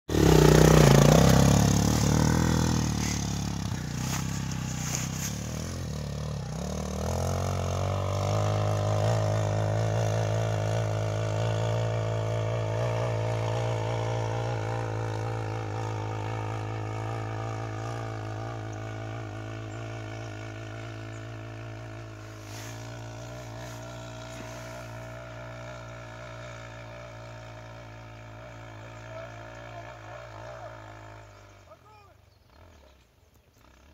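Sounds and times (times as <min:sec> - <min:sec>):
dirt bike engine revving: 0:00.1 - 0:31.8.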